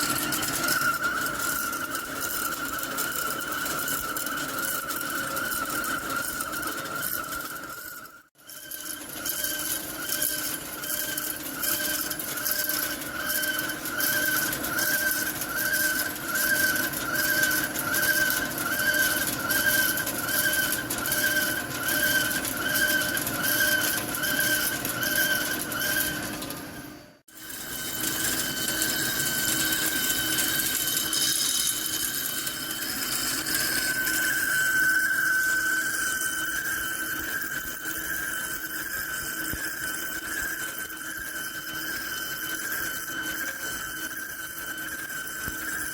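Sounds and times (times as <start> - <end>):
lathe cutting whine: 0.0 - 45.9.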